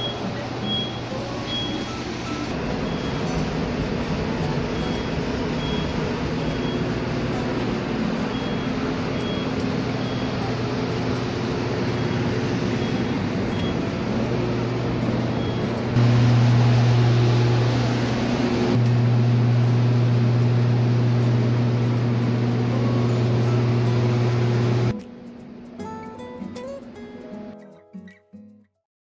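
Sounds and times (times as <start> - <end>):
blower fans rushing and humming: 0.0 - 25.8.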